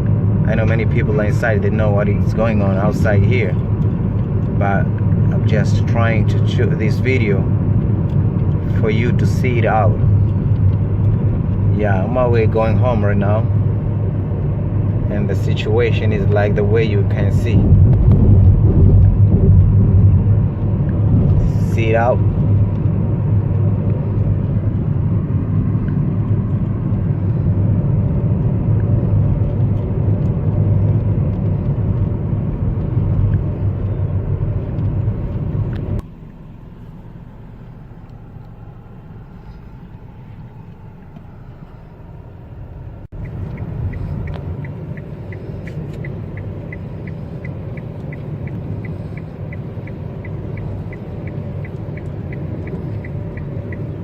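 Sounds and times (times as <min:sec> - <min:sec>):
car road and engine rumble: 0:00.0 - 0:54.0
turn signal ticking: 0:00.0 - 0:54.0.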